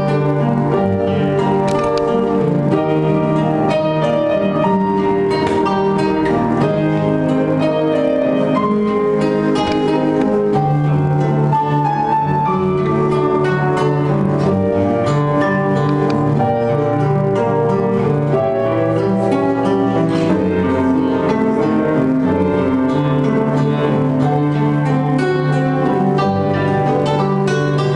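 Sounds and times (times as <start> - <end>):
plucked strings melody: 0.0 - 27.9.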